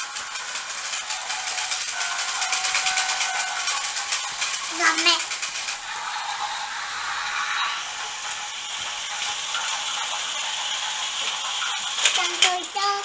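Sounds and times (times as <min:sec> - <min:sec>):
toy train motors whirring: 0:00.0 - 0:13.0.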